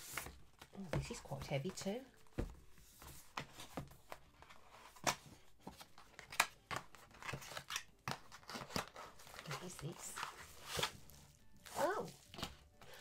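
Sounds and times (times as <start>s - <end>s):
cardboard rustling and scraping: 0.0s - 6.2s, 8.4s - 12.7s.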